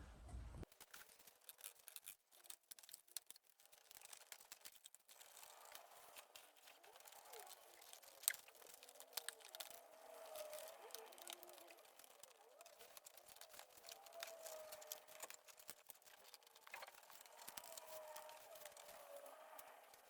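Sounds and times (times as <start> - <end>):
faint scattered clicks: 0.6 - 20.0.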